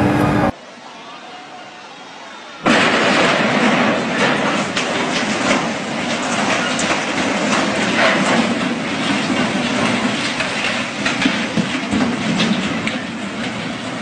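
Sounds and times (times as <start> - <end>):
house breaking apart cracks: 2.6 - 14.0.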